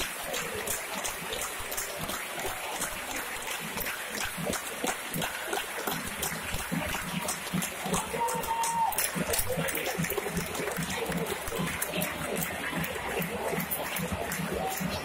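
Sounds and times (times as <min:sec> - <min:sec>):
stadium crowd hubbub: 0:00.0 - 0:15.0.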